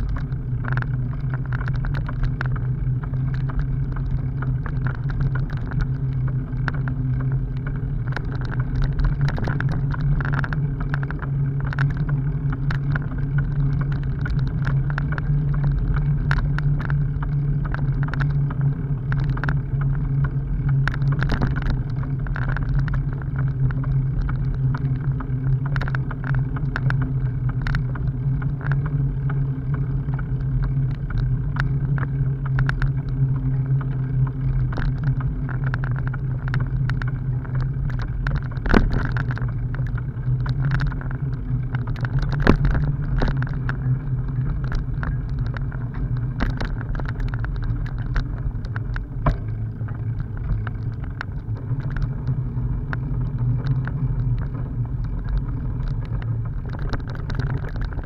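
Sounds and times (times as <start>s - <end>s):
bicycle rattles and clicks: 0.0s - 58.0s
bicycle tyres humming: 0.0s - 58.0s.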